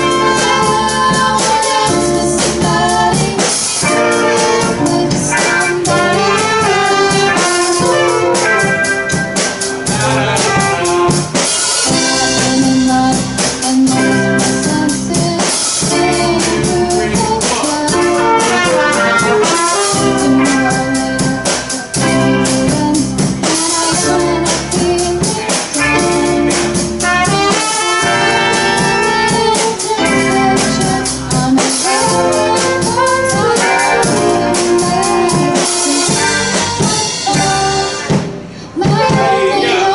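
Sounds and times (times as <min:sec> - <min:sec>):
drum kit beat: 0:00.0 - 0:39.9
horn lines: 0:00.0 - 0:39.9
rock band playing live: 0:00.0 - 0:39.9.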